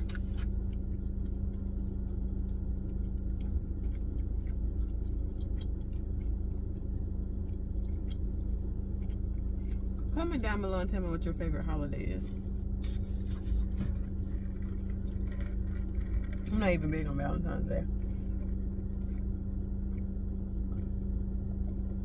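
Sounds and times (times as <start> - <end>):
person chewing food: 0.0 - 10.2, 12.2 - 16.5, 17.9 - 22.0
car cabin rumble and hum: 0.0 - 22.0.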